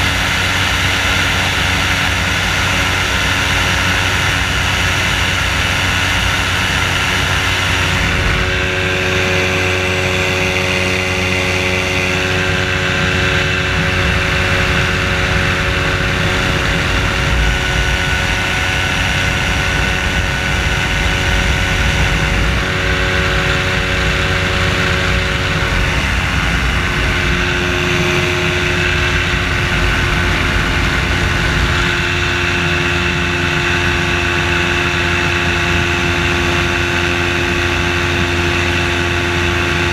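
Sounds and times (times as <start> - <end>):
ultralight engine and propeller: 0.0 - 39.9.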